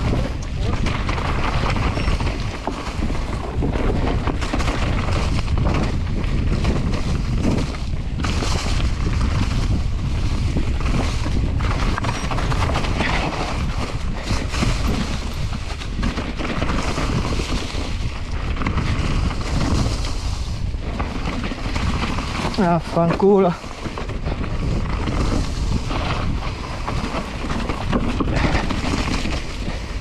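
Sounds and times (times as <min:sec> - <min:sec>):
mountain bike rattling and knocking: 0:00.0 - 0:30.0
wind buffeting microphone: 0:00.0 - 0:30.0.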